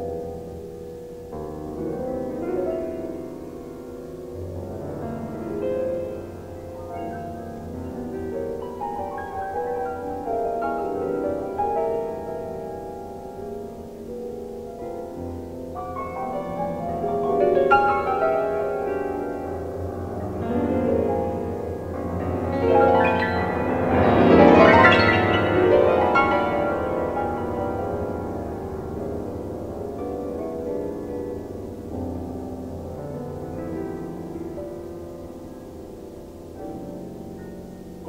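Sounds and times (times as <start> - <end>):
solo piano chords: 0.0 - 38.0.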